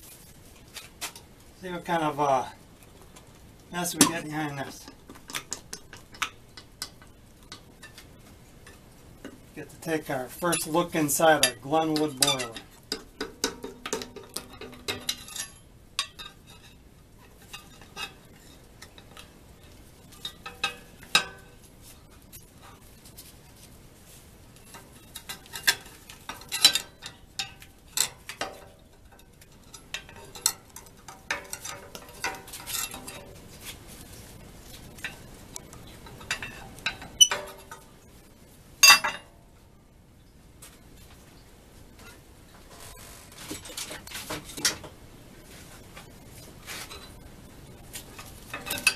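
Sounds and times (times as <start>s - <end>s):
metal clinks scrapes and knocks: 3.8s - 39.3s, 42.0s - 44.9s, 45.8s - 48.9s.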